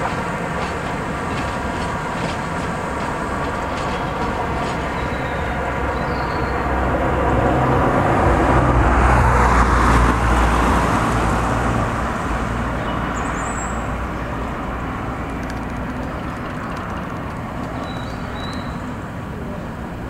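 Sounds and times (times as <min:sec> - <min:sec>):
diesel locomotive engine throbbing: 0:00.0 - 0:20.0.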